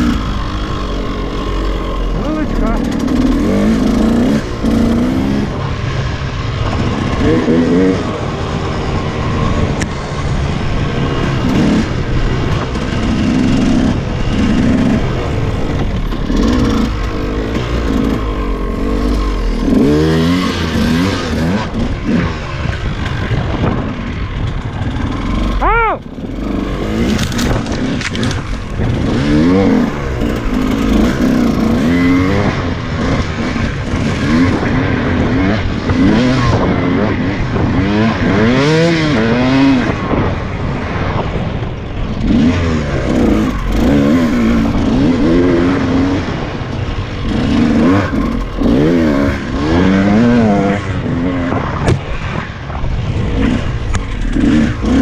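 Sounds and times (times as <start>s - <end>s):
dirt bike engine revving: 0.0s - 41.3s, 42.1s - 55.0s.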